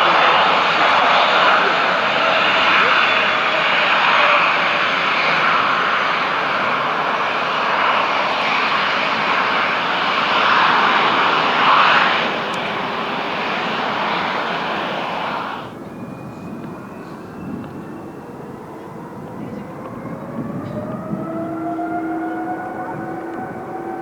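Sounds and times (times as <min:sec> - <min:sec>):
jet engines at high thrust: 0:00.0 - 0:24.0.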